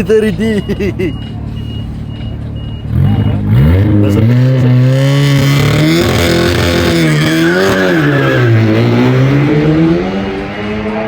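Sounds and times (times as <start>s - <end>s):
car engine accelerating: 0.3s - 11.0s.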